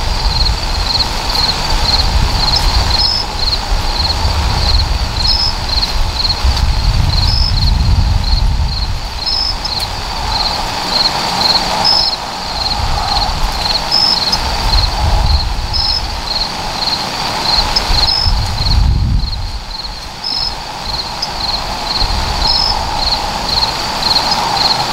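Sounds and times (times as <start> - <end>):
uneven low rumble: 0.0 - 16.9, 17.5 - 24.5
crickets chirping: 0.0 - 24.9
higher insect chirp: 0.0 - 24.9.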